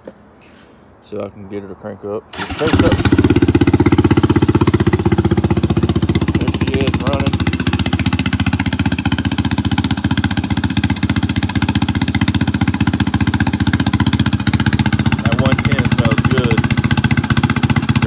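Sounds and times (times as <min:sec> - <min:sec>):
quad engine idling: 0:02.4 - 0:18.0.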